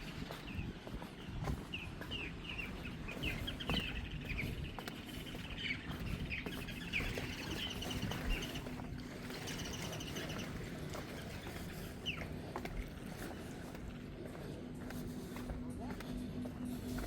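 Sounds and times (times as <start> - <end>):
footsteps on wooden decking: 0.0 - 9.5, 10.2 - 17.0
birds chirping: 0.0 - 17.0
steady low hum: 0.0 - 17.0.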